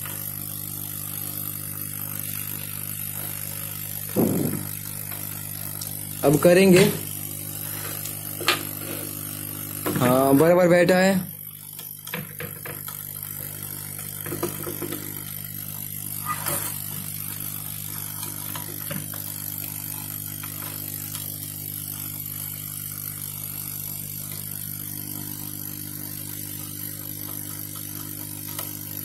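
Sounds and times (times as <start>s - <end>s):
blower motor humming: 0.0s - 29.0s.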